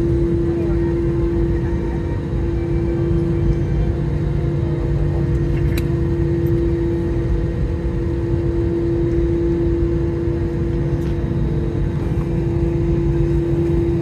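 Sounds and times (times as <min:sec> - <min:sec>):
airliner cabin rumble and hum: 0:00.0 - 0:14.0.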